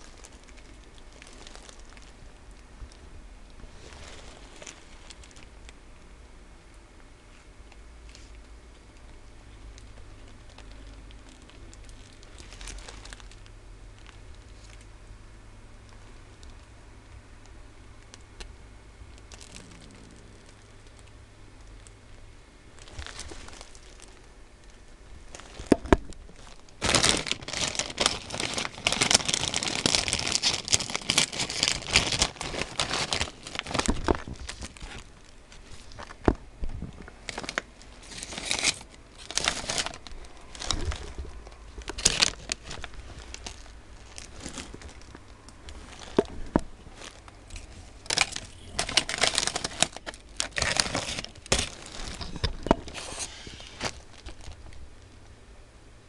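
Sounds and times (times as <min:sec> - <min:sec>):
plastic snack bag crinkling: 0:00.0 - 0:06.0, 0:07.3 - 0:14.9, 0:15.8 - 0:16.8, 0:19.1 - 0:55.2.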